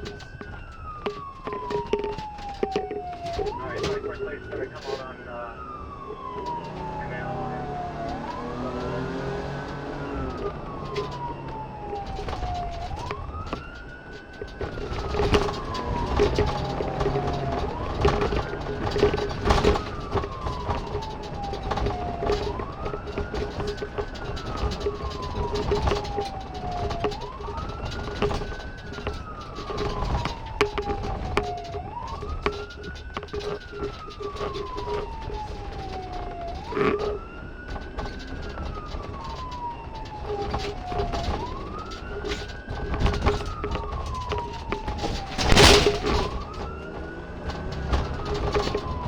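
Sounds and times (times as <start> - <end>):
police siren wailing: 0.0 - 49.0
vehicle noise: 0.0 - 49.0.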